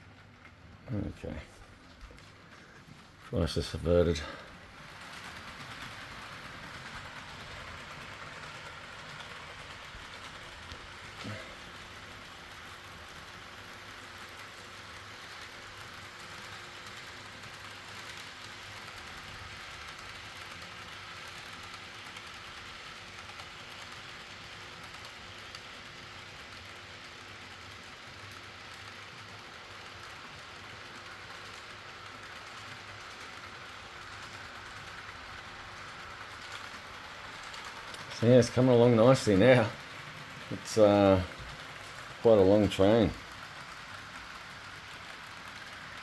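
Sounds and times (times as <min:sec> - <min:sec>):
model train wheels rattling: 0:00.0 - 0:46.0.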